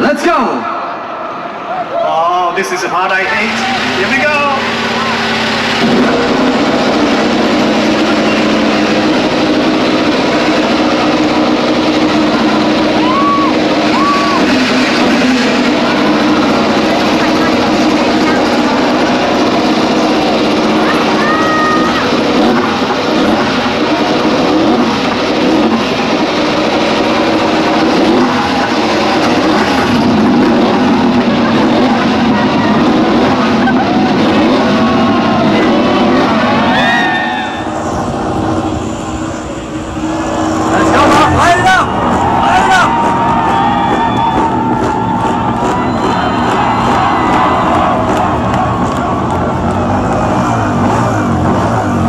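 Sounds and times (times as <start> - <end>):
rising and falling tones: 3.0 - 52.0
racing motorcycle engine running: 3.2 - 52.0.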